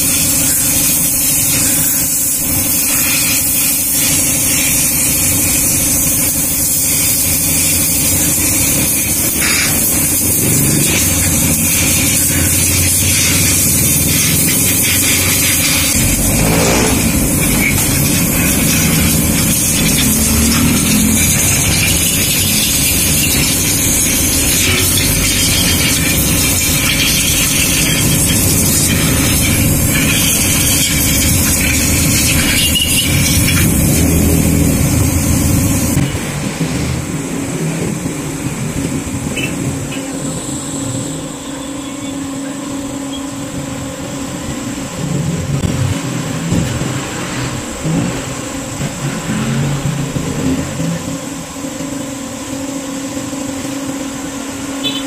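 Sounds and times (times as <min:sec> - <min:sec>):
engine running: 0:00.0 - 0:55.0
workshop noise: 0:00.0 - 0:55.0.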